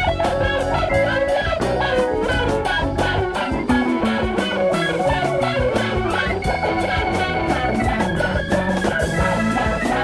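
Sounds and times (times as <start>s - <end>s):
bass guitar: 0.0s - 10.0s
drums: 0.0s - 10.0s
electric guitar: 0.0s - 10.0s.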